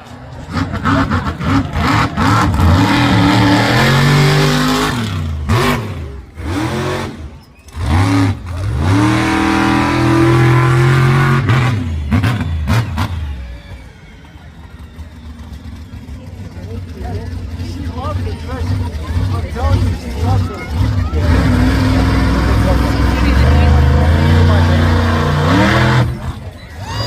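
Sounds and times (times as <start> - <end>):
monster truck engine revving: 0.0 - 27.0.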